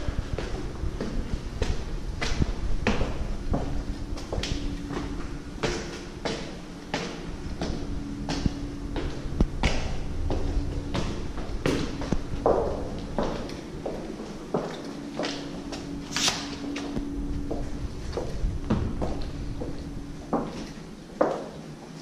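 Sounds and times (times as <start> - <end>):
footsteps on hard floor: 0.0 - 21.6
faint steady hum: 0.0 - 22.0.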